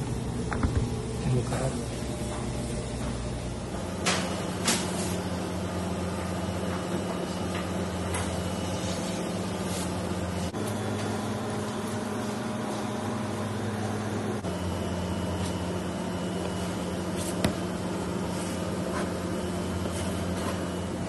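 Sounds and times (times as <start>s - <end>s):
kitchen machinery hum: 0.0s - 21.0s.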